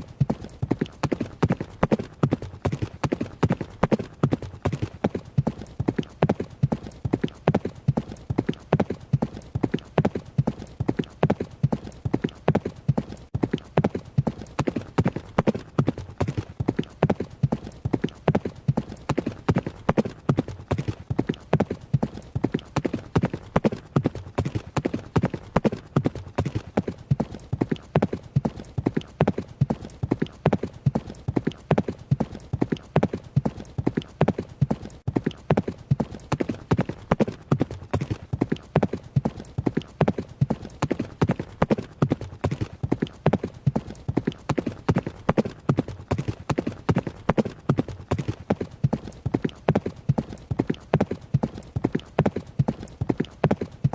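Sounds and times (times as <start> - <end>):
horse hooves galloping: 0.0 - 53.9.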